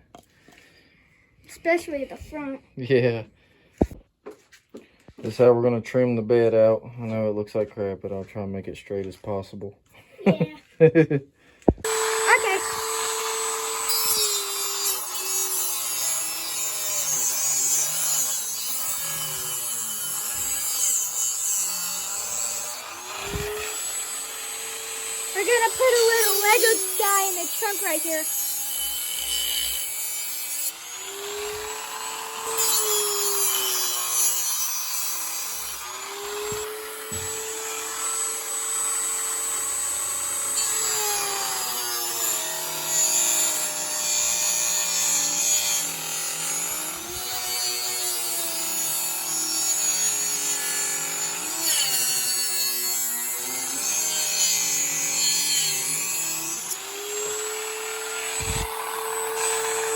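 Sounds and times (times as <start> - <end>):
rotary tool grinding wood: 11.7 - 59.9.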